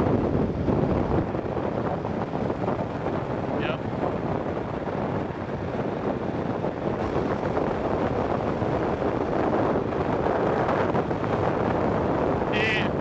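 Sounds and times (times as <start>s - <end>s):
wind roaring over microphone: 0.0s - 13.0s.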